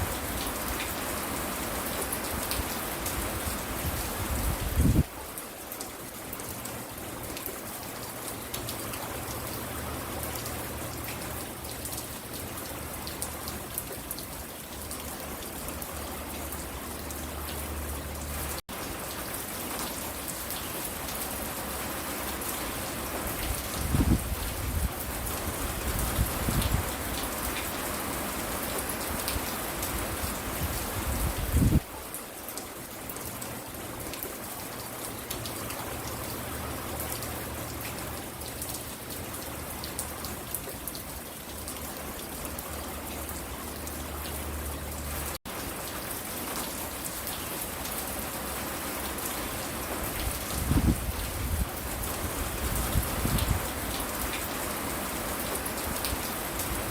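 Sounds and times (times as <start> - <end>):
steady rain pattering: 0.0 - 56.9.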